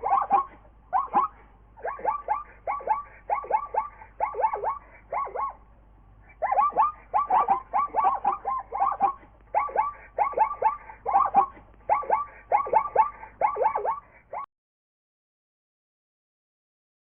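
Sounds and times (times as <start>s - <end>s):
short squeaky animal calls: 0.0s - 5.6s, 6.3s - 14.5s.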